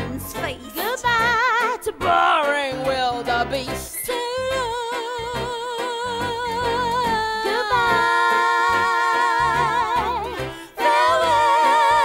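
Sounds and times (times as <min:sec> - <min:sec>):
instrumental backing: 0:00.0 - 0:12.0.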